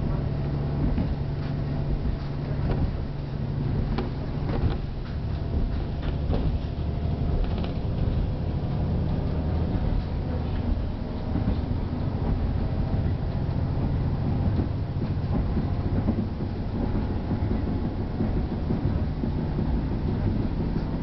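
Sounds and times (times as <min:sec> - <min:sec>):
railcar engine drone: 0:00.0 - 0:21.0
wheels rumbling on track: 0:00.0 - 0:21.0.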